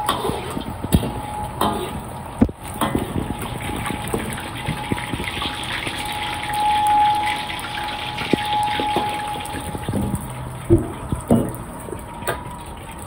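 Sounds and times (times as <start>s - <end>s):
water gushing from a tap: 2.1s - 13.0s.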